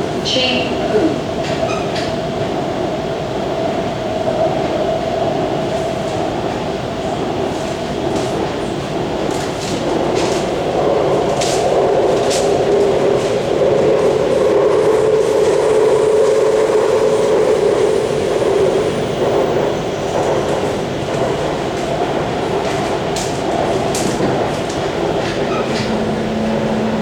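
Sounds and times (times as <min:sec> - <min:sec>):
metro train rumbling: 0:00.0 - 0:27.0.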